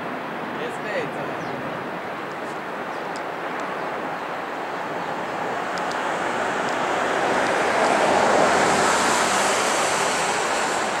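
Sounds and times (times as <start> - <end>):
jet engines rushing: 0.4 - 11.0.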